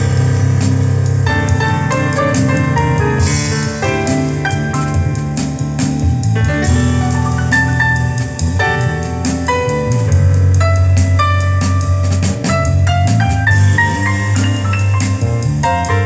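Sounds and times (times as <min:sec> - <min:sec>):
drum strikes: 0:00.0 - 0:16.0
piano: 0:00.0 - 0:16.0
strong bass line: 0:00.0 - 0:16.0.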